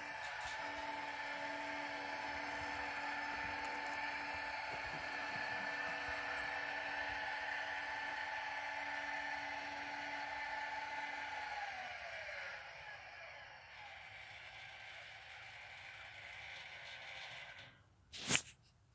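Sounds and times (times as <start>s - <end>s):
gate opener motor whining: 0.0s - 17.9s.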